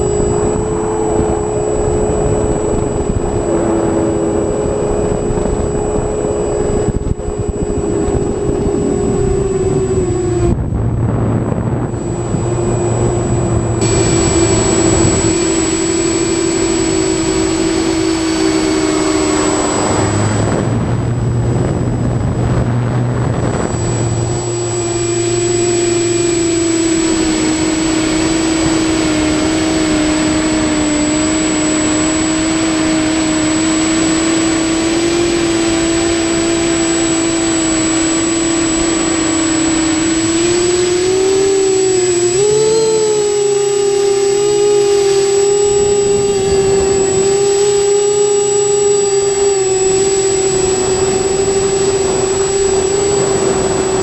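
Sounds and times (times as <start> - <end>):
thin constant high tone: 0.0 - 10.5, 11.9 - 20.7, 23.6 - 54.0
drone propellers whining: 0.0 - 54.0
wind rush: 0.0 - 54.0.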